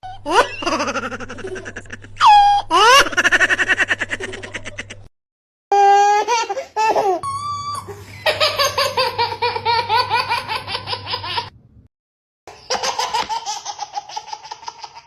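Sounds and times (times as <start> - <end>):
baby laughing: 0.0 - 5.1, 5.8 - 7.2, 7.9 - 11.5, 12.5 - 15.0.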